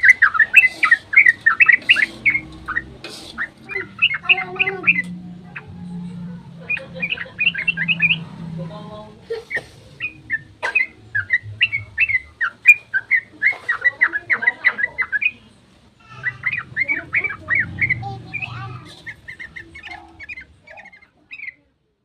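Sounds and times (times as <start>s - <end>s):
bulbul singing: 0.0s - 21.6s.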